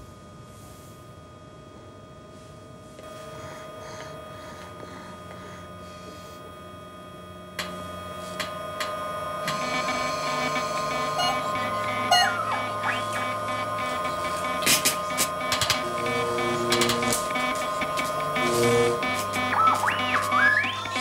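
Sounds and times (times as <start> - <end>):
machine electrical hum: 0.0 - 21.0.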